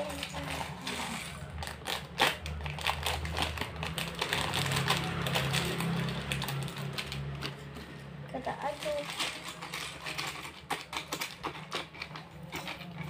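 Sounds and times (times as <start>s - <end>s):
plastic packet crinkling: 0.0s - 7.8s, 8.4s - 13.0s.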